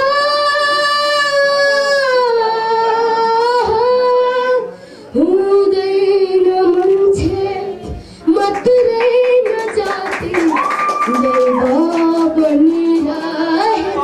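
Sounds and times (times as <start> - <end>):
child singing into microphone: 0.0 - 14.0.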